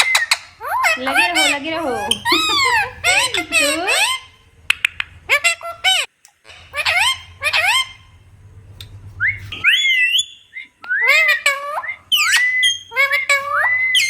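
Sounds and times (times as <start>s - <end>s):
parrot whistling: 0.0s - 8.2s, 9.1s - 14.0s.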